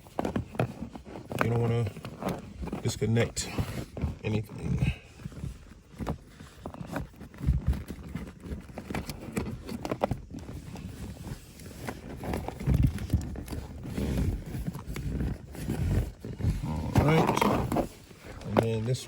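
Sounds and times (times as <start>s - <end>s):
hands handling plastic parts: 0.0s - 19.0s.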